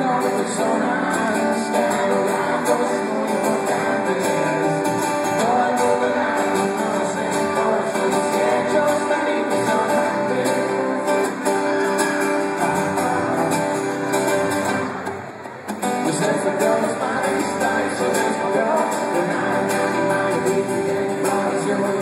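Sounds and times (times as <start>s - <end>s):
acoustic guitars strumming: 0.0s - 22.0s.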